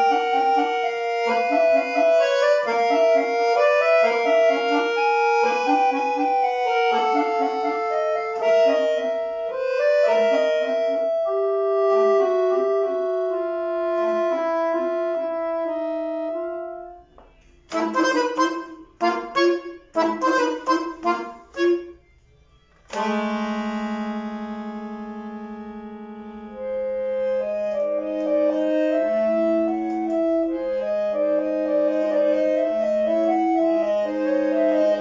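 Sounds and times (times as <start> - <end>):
piano accordion playing: 0.0 - 22.3, 22.9 - 35.0.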